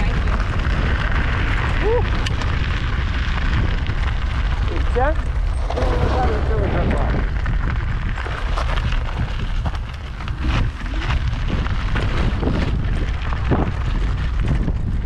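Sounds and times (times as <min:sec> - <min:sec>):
knocks and rattles from rough path: 0:00.0 - 0:15.0
wind buffeting microphone: 0:00.0 - 0:15.0.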